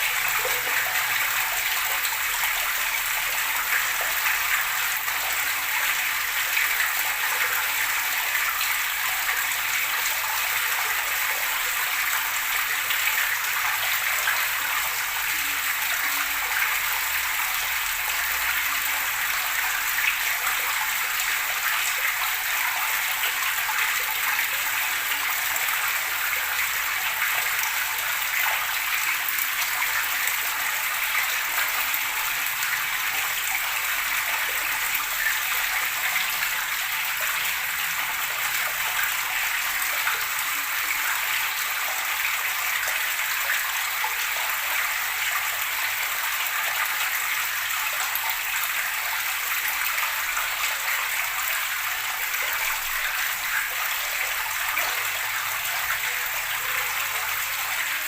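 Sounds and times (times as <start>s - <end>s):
running water gurgling: 0.0s - 58.0s.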